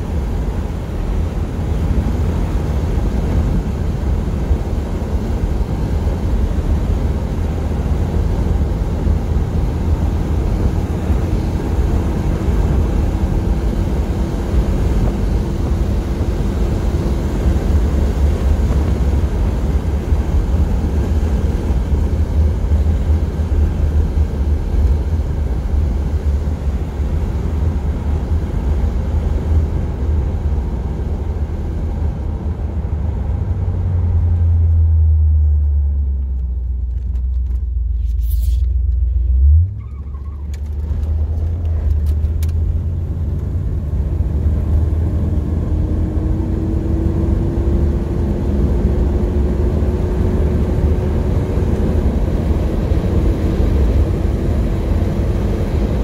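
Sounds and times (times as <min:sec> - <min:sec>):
car engine cruising: 0:00.0 - 0:56.0
road and wind noise: 0:00.0 - 0:56.0.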